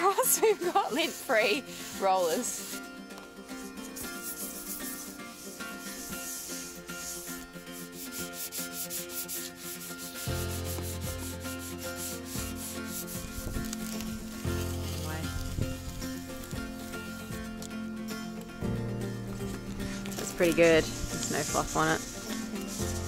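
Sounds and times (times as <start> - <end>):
sandpaper scuffing strokes: 0.0 - 2.9, 3.5 - 17.5, 19.3 - 23.0.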